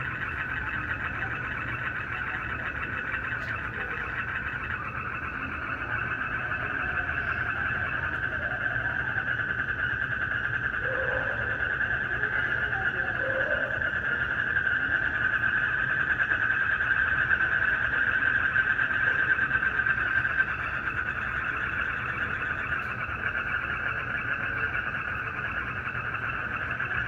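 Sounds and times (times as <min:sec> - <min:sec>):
crickets and frogs trilling: 0:00.0 - 0:27.0.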